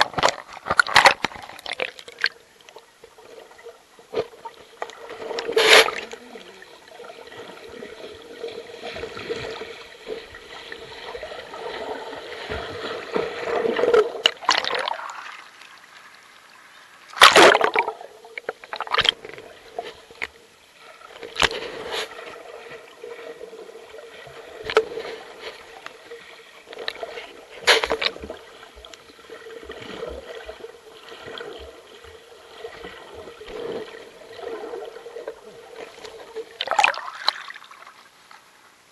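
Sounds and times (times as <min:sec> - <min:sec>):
splashing and bubbles: 0:00.0 - 0:16.1, 0:17.1 - 0:20.3, 0:20.9 - 0:38.1
faint steady hum: 0:00.0 - 0:38.9
muffled underwater water rushing: 0:00.0 - 0:38.9.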